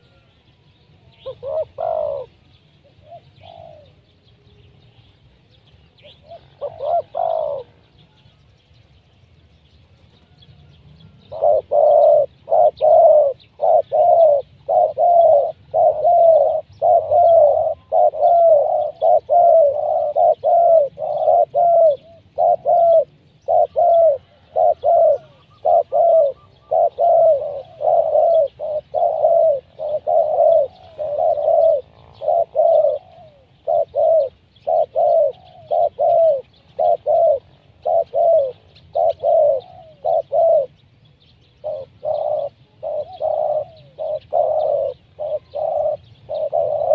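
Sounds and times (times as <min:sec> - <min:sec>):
dove cooing: 0:00.0 - 0:00.4, 0:01.0 - 0:04.7, 0:06.0 - 0:08.2, 0:09.9 - 0:46.9.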